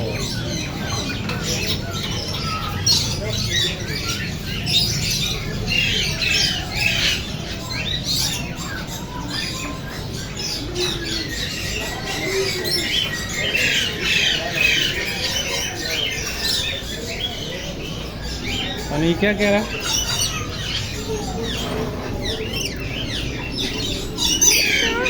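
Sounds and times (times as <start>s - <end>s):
parrots squawking and chattering: 0.0s - 25.0s.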